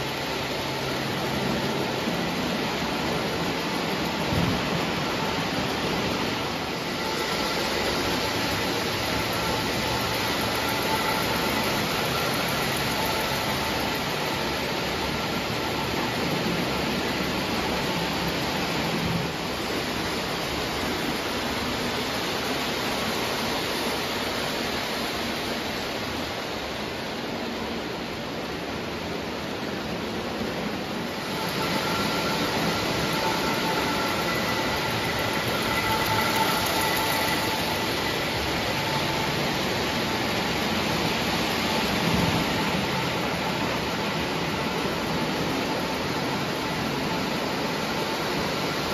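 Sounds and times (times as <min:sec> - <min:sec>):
model train running on track: 0:00.0 - 0:48.9.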